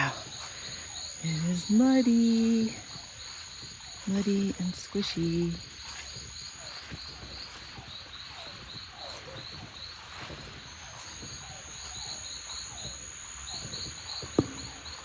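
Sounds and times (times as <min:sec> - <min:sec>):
insect chirping in quick pulses: 0:00.0 - 0:15.0
steady high insect buzz: 0:00.0 - 0:15.0.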